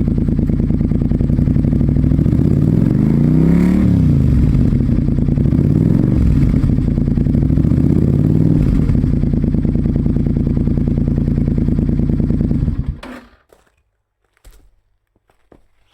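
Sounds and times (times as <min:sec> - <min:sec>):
motorcycle engine revving and idling: 0:00.0 - 0:13.4.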